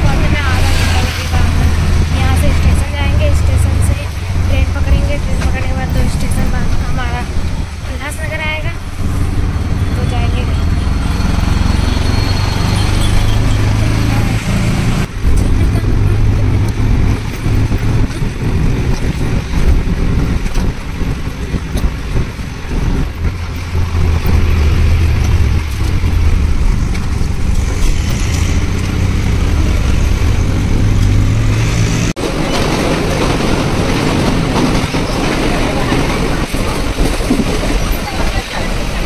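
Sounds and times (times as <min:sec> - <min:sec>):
road and wind noise: 0:00.0 - 0:39.0
vehicle engine hum: 0:00.0 - 0:39.0.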